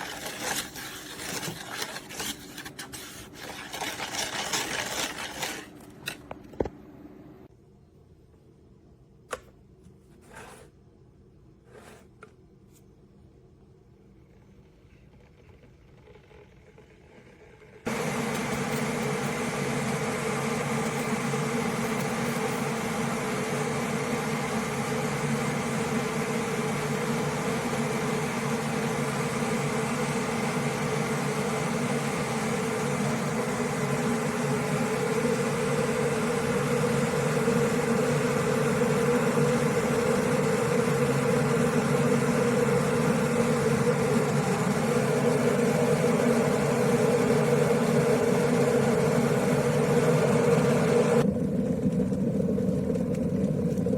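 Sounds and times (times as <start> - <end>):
electric kettle heating water: 0.0 - 6.7, 14.9 - 53.9.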